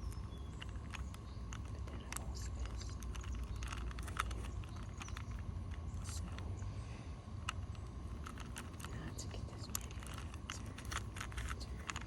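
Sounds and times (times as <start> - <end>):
puzzle cube plastic clicks: 0.0 - 6.5, 7.4 - 12.0
low steady rumble: 0.0 - 12.0.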